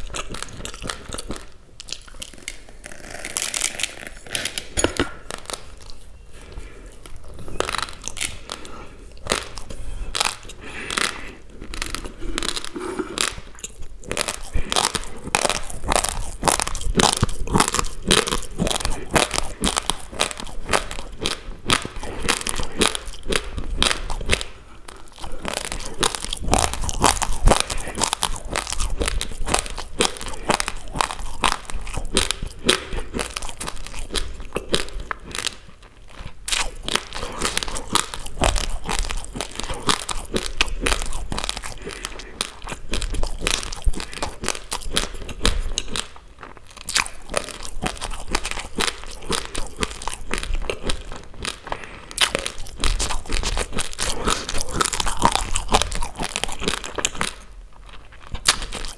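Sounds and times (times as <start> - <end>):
rice grains crunching: 0.0 - 58.9.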